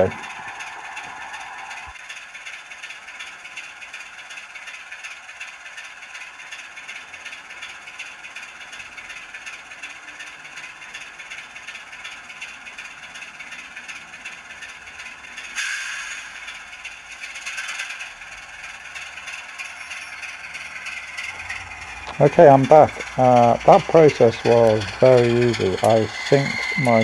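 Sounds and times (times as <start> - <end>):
model diesel locomotive idling: 0.0 - 27.0.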